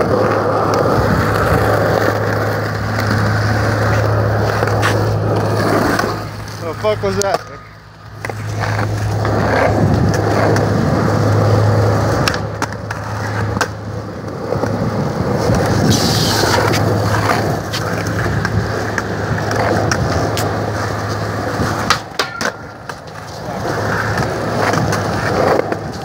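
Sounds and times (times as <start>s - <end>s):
skateboard wheels rolling on concrete: 0.0s - 26.0s.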